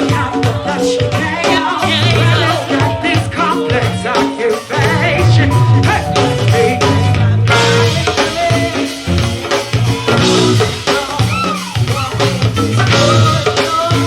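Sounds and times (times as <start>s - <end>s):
drum kit and percussion groove: 0.0s - 14.0s
live band playing: 0.0s - 14.0s
person singing: 0.0s - 14.0s.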